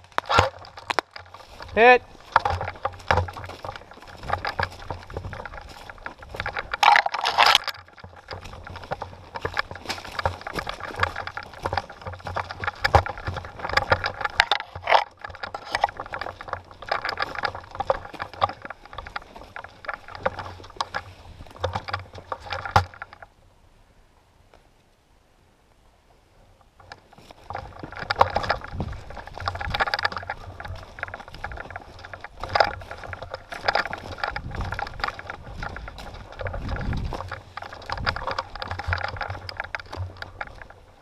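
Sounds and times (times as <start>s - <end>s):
footsteps crunching dry leaves: 0.0s - 23.2s, 26.8s - 41.0s
camera handling knocks and rattles: 0.0s - 23.3s, 26.8s - 41.0s.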